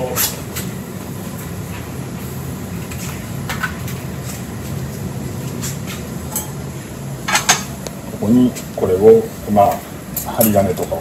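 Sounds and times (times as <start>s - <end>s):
low hum of lab equipment: 0.0s - 11.0s.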